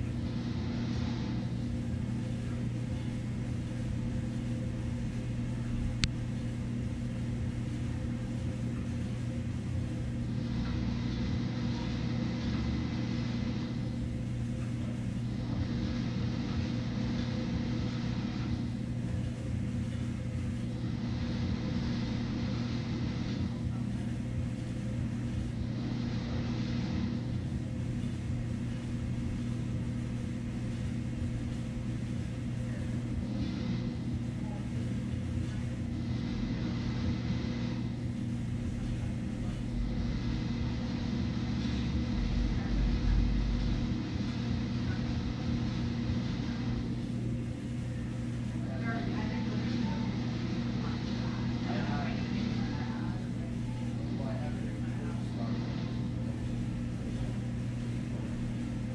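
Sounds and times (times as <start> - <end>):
low rumble: 0.0 - 58.9
machine hum: 0.0 - 58.9.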